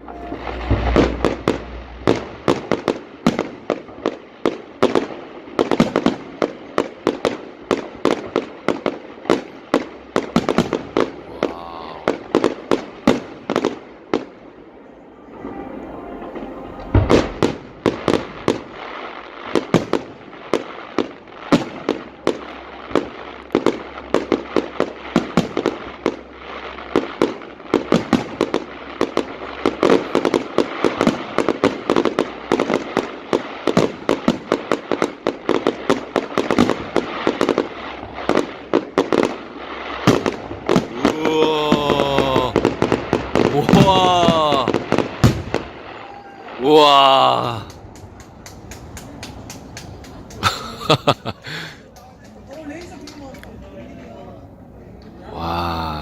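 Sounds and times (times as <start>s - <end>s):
fireworks bangs: 0.0s - 54.0s
fireworks crackling and popping: 0.0s - 54.1s.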